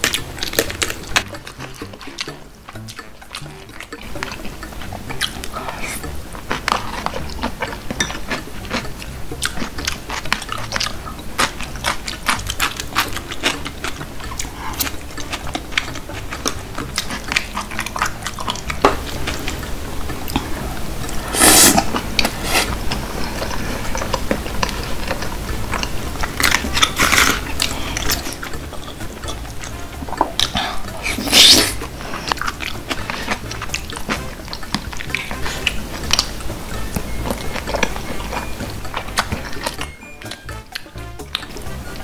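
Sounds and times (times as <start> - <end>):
chewing: 0.0 - 42.0.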